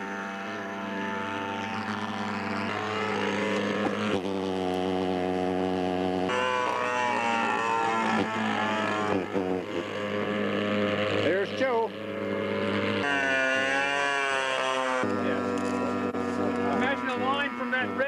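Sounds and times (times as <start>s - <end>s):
model plane engine drone: 0.0s - 18.0s.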